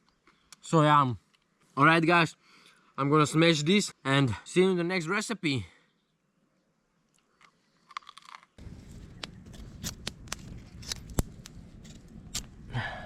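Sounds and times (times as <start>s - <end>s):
low outdoor background: 0.0s - 13.0s.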